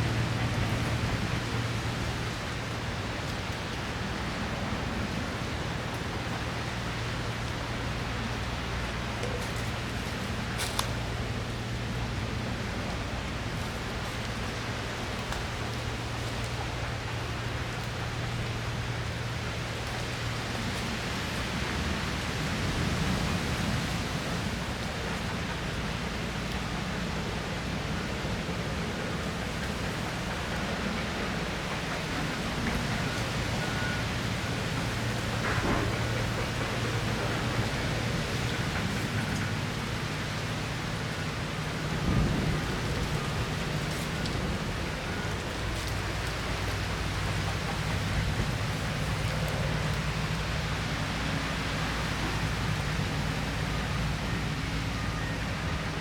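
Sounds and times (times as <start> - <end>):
heavy rain hissing: 0.0 - 56.0
wind: 0.0 - 56.0.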